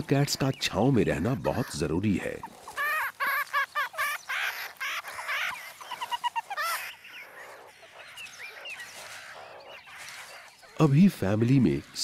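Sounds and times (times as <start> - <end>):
meerkat pups squeaking: 0.0 - 12.0.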